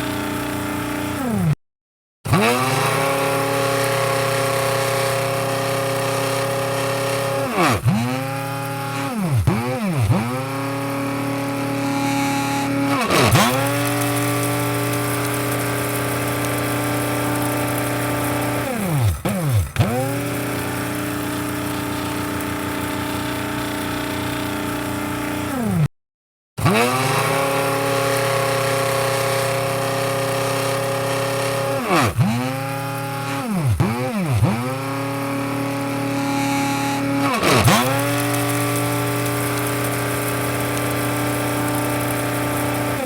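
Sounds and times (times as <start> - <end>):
coffee grinder motor humming: 0.0 - 1.6, 2.3 - 25.9, 26.6 - 43.0.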